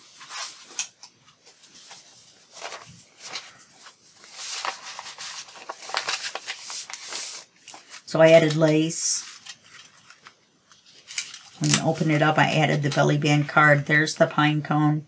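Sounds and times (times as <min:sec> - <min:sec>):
paper rustling and flapping: 0:00.0 - 0:13.2.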